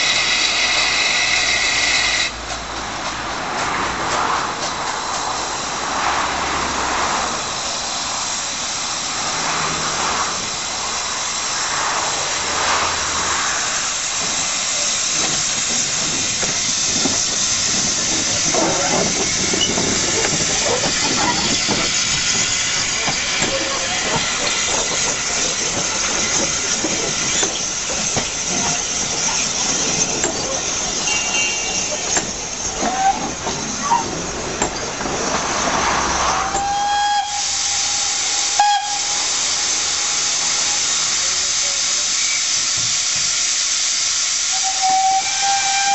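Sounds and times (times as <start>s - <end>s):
steam hissing: 0.0s - 2.7s, 4.0s - 45.9s
steam locomotive exhaust beats: 0.0s - 45.9s
train wheels clicking on track: 0.0s - 45.9s.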